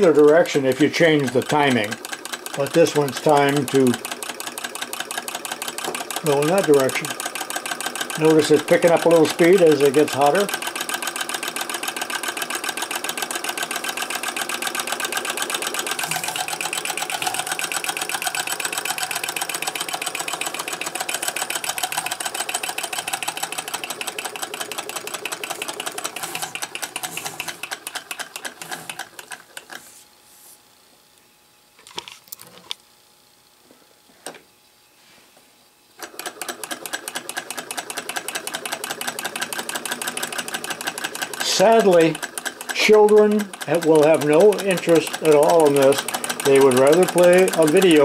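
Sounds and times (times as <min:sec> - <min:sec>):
model engine clattering: 0:00.0 - 0:29.8, 0:36.0 - 0:48.0.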